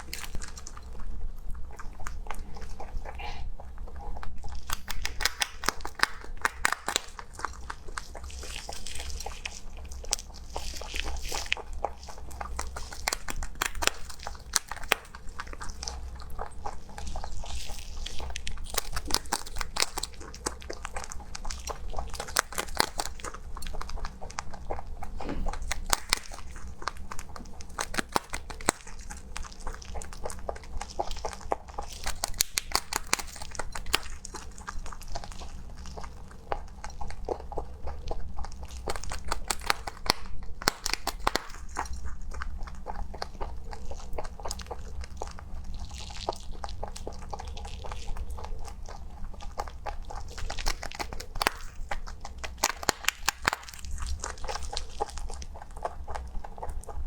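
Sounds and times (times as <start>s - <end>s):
rabbit chewing crunchy food: 0.0s - 57.0s.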